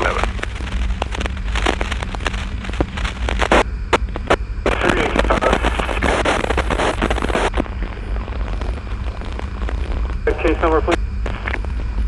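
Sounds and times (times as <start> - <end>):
crackling clicks: 0.0 - 12.0.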